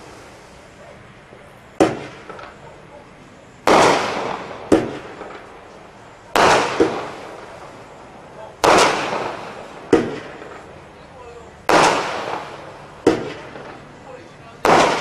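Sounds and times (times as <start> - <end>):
firework bangs: 0.0 - 15.0
sharp firework crack: 1.7 - 15.0.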